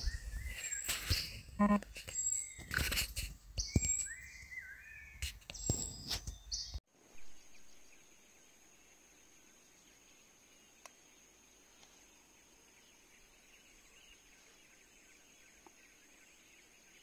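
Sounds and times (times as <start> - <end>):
forest birds chirping: 0.0 - 17.0.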